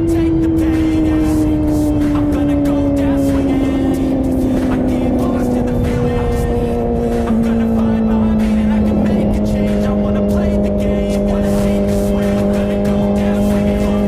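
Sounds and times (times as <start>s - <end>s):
motorcycle engine revving steadily: 0.0s - 14.0s.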